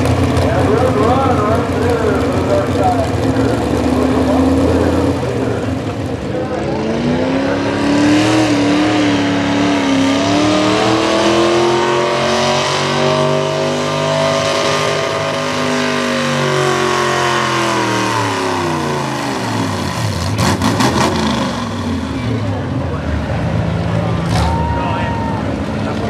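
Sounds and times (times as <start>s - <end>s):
tractor engine at high revs: 0.0s - 24.9s.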